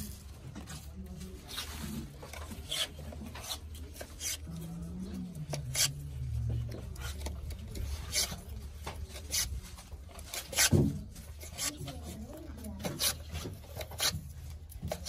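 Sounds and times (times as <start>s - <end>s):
wooden rod scraping cardboard tubes: 0.0s - 15.0s.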